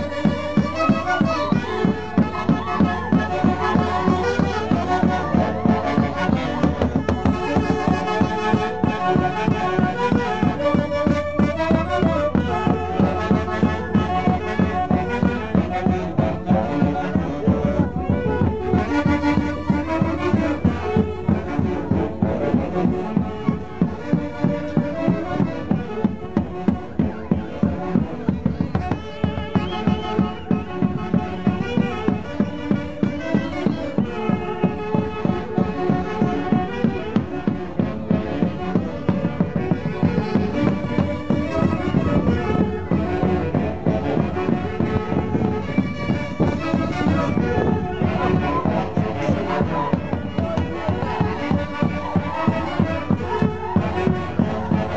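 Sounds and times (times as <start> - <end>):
folk orchestra playing: 0.0 - 54.9.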